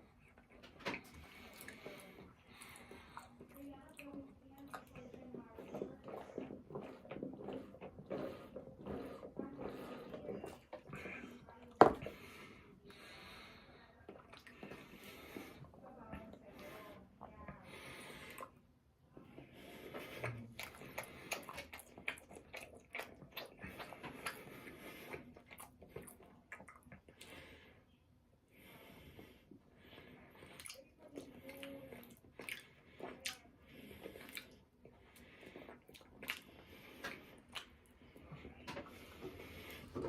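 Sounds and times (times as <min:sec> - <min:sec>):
person chewing and eating: 0:00.0 - 0:12.4, 0:14.1 - 0:15.8, 0:19.2 - 0:27.6, 0:30.4 - 0:40.0.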